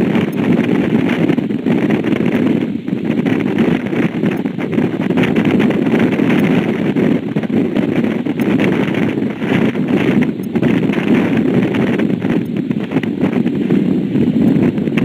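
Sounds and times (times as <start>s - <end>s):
motorboat rushing: 0.0s - 15.0s
wind on microphone: 0.0s - 15.0s.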